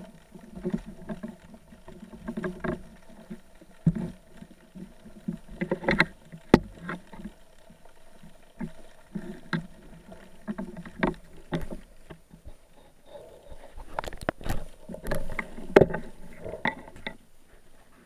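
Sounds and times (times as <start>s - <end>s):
underwater water rumbling: 0.0s - 17.8s.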